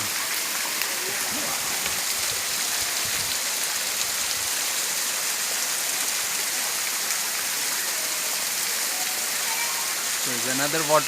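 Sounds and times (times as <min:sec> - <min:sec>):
waterfall splashing onto rocks: 0:00.0 - 0:11.0.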